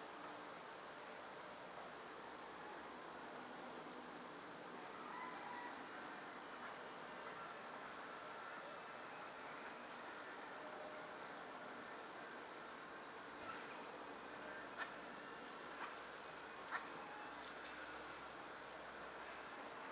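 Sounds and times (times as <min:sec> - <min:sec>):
background hiss: 0:00.0 - 0:19.9
insects buzzing: 0:00.0 - 0:19.9.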